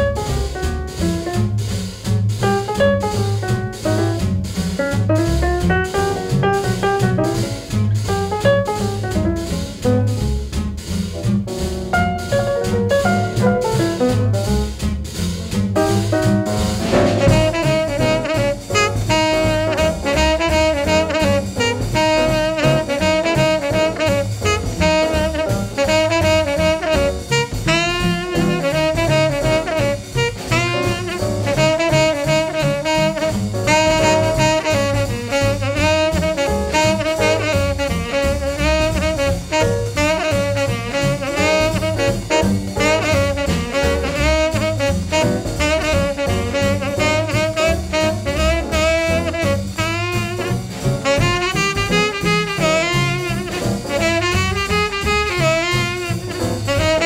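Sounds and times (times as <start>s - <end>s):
jazz music with brass melody: 0.0s - 57.0s.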